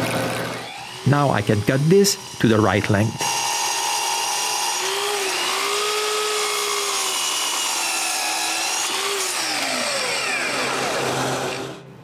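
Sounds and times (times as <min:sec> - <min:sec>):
miter saw cutting wood: 0:00.0 - 0:11.8.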